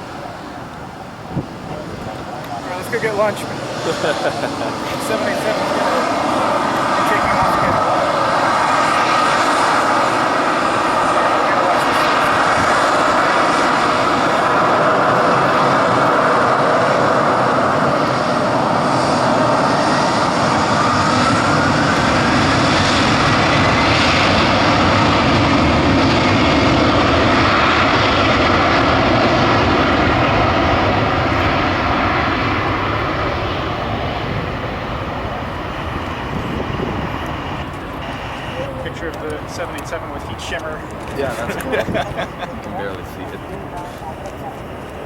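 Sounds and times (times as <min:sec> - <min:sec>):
jet engines at takeoff power: 0:00.0 - 0:45.0.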